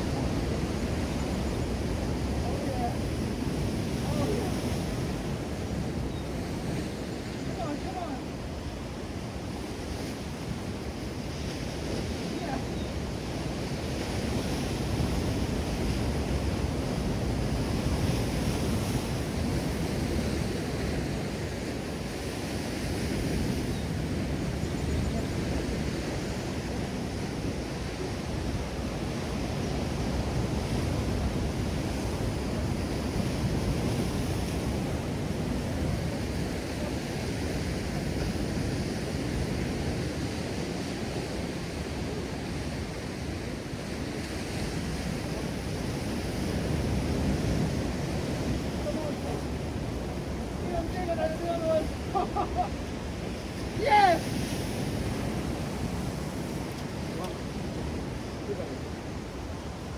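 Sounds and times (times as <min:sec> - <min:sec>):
ocean surf washing: 0:00.0 - 0:59.9
wind on microphone: 0:00.0 - 0:59.9.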